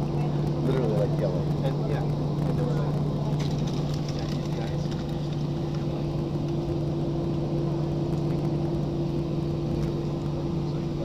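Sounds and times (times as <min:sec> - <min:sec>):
airliner cabin engine hum: 0:00.0 - 0:11.0.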